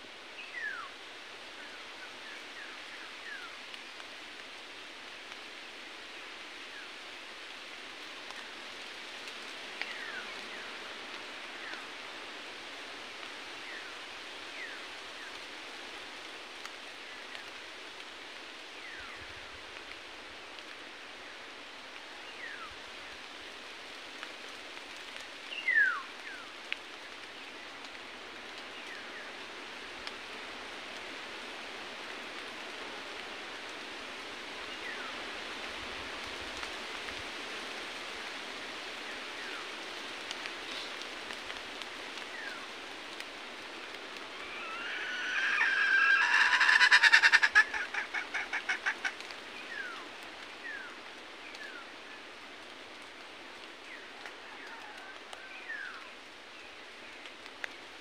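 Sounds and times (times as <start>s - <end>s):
forest ambience hiss: 0.0s - 58.0s.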